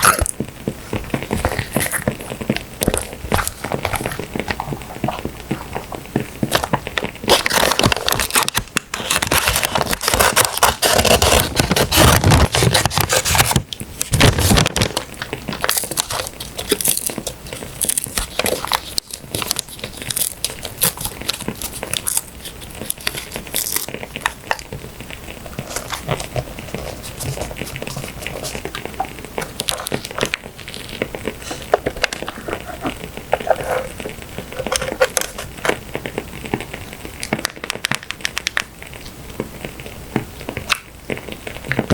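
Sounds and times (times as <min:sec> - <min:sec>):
paper crinkling and rustling: 0:00.0 - 0:39.2.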